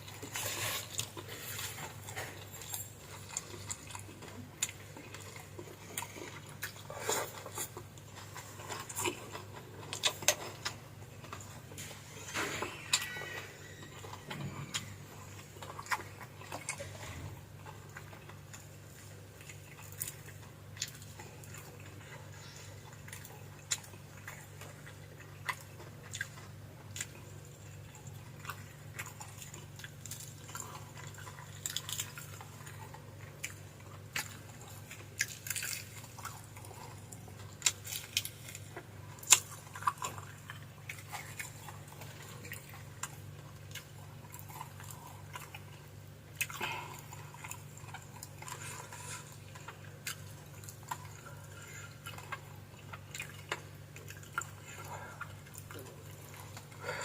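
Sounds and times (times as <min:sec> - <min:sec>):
person chewing and eating: 0:00.0 - 0:57.0
steady low hum: 0:00.0 - 0:57.0.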